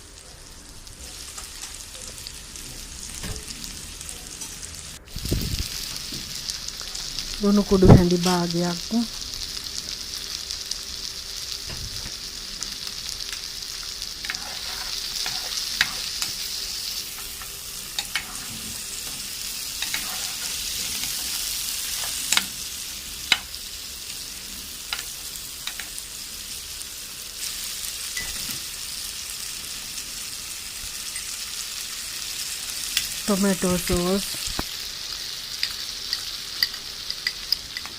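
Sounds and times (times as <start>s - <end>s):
vegetables sizzling in a frying pan: 0.0s - 37.9s.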